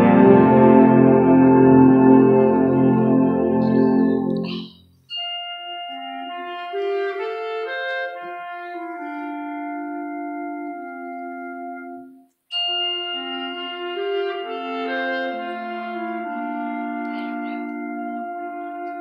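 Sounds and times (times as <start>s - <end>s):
concert band held wind chords: 0.0s - 19.0s.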